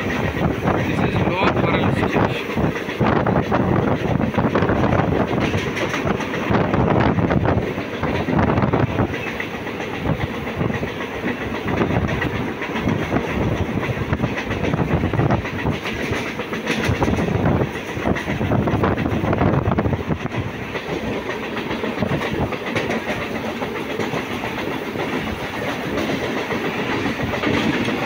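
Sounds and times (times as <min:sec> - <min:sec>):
train rumbling: 0:00.0 - 0:28.0
wheels clattering over rail joints: 0:00.0 - 0:28.0.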